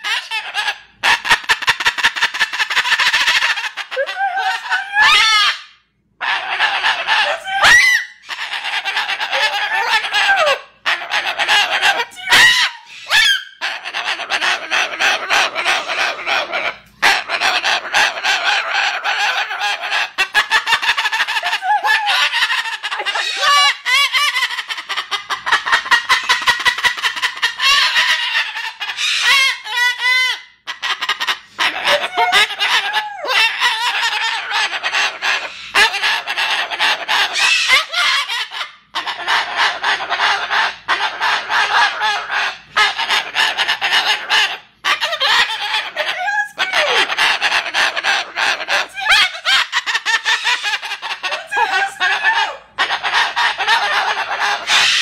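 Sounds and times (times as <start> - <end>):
cockatoo harsh calls: 0.0 - 55.0.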